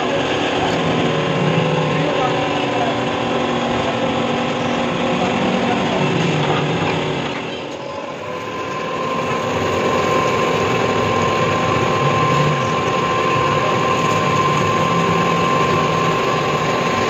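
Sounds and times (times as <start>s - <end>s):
high whine of cutting: 0.0s - 17.0s
metal lathe drone: 0.0s - 17.0s.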